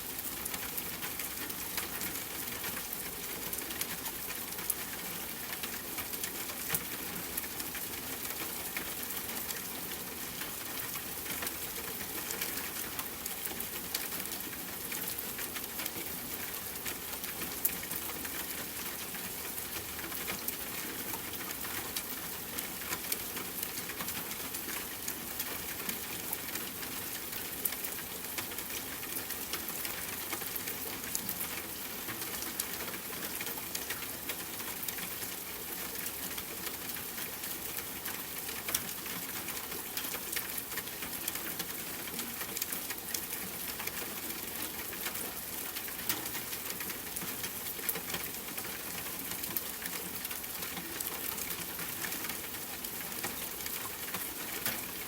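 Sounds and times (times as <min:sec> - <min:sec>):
rain pattering on a tent: 0:00.0 - 0:55.0.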